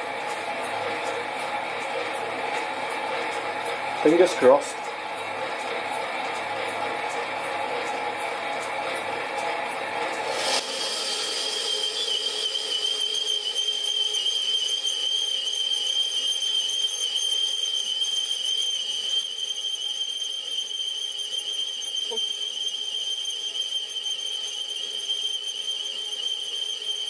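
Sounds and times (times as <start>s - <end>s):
lathe whining: 0.0s - 27.0s.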